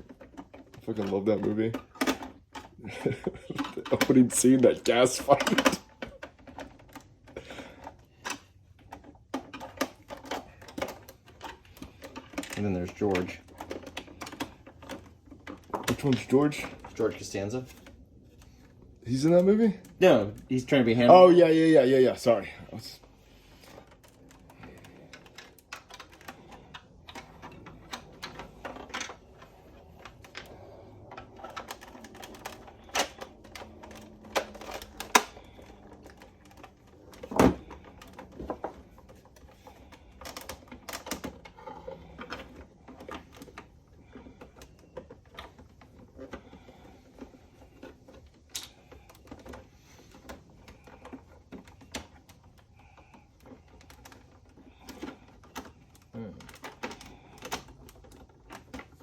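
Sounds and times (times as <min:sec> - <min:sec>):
clicks and knocks on plastic case: 0:00.0 - 0:21.7, 0:22.3 - 0:59.0.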